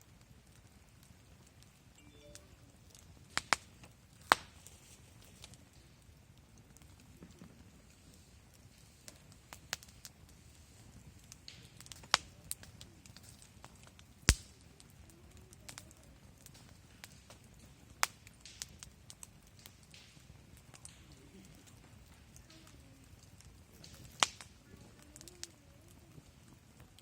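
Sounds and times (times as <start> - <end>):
campfire crackling: 0.0 - 27.0
loud fire pops: 3.3 - 25.6.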